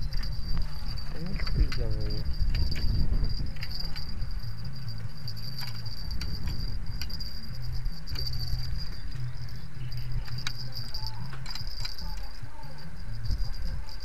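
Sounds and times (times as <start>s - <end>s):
insects trilling: 0.0s - 14.0s
low rumble: 0.0s - 14.0s.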